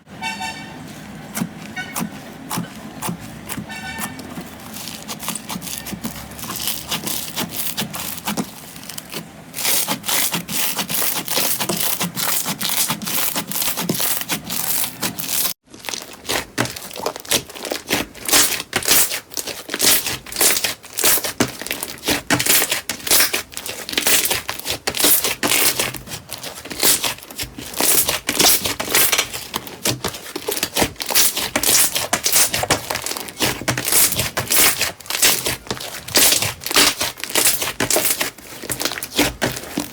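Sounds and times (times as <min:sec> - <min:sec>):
slime crackling when squeezed: 0:03.5 - 0:39.9.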